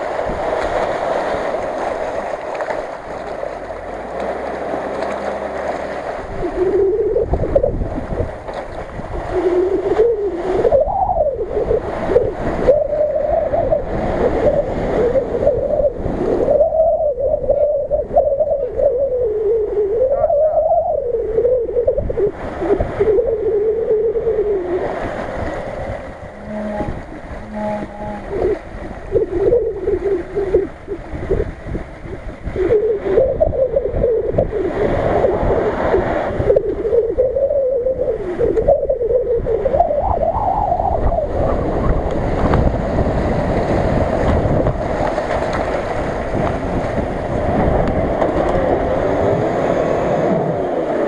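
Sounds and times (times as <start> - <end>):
water splashing around wheels: 0.0 - 16.6, 22.0 - 39.0, 39.6 - 51.0.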